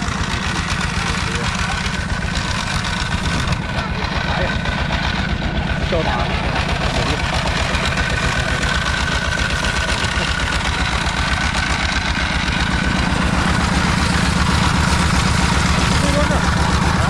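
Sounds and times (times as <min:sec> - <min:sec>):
high machine whine: 0:00.0 - 0:17.0
snack extruder engine pulsing: 0:00.0 - 0:17.0.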